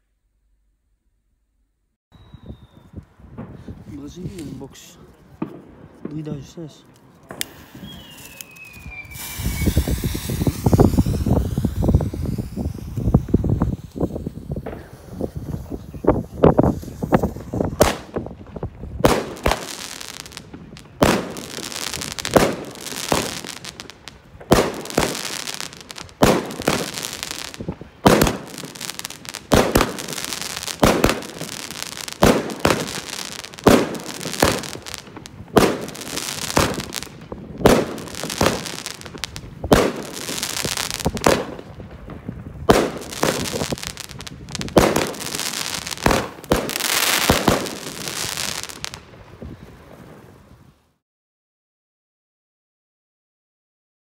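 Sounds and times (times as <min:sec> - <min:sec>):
fireworks bangs with hiss: 0:02.6 - 0:50.8.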